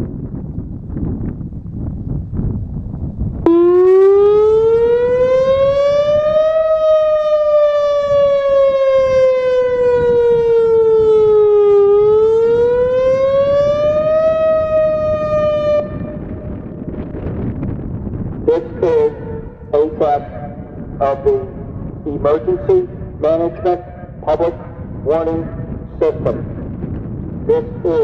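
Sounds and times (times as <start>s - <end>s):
wind rumbling on microphone: 0.0s - 28.0s
warning siren wailing: 3.4s - 28.0s.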